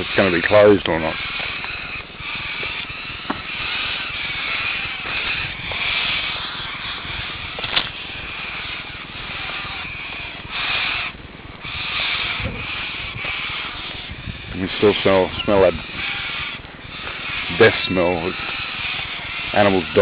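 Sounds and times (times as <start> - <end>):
tyre and wind road noise: 0.0 - 20.0.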